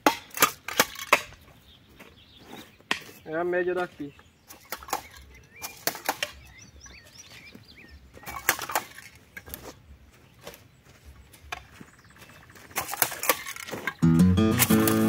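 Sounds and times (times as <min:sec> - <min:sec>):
bird chirping: 0:01.3 - 0:09.1, 0:09.8 - 0:15.0.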